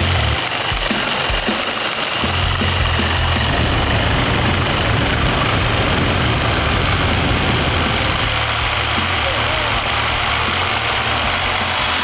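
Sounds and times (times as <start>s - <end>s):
chainsaw engine cutting: 0.0s - 12.0s.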